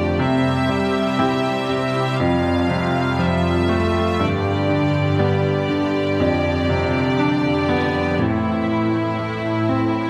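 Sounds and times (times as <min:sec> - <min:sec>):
slow instrumental background music: 0:00.0 - 0:10.0.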